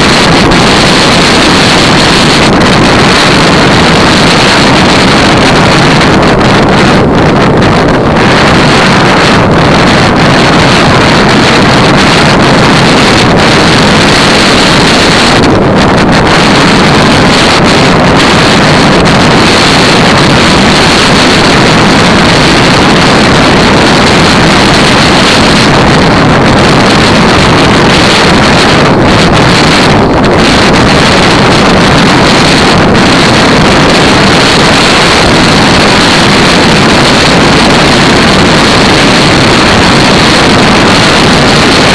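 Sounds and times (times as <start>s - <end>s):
tyre noise on wet road: 0.0s - 41.9s
wind rushing over microphone: 0.0s - 41.9s.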